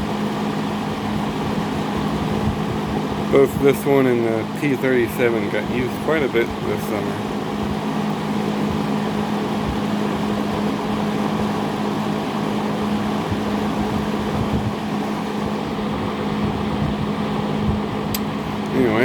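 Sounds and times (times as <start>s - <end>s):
fan air rushing: 0.0s - 19.0s
low motor hum: 0.0s - 19.0s.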